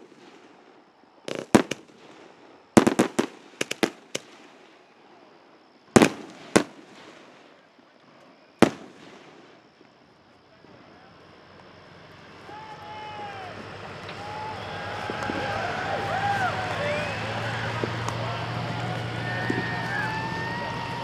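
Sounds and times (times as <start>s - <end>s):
fireworks bangs: 0.0s - 10.9s, 12.4s - 21.0s.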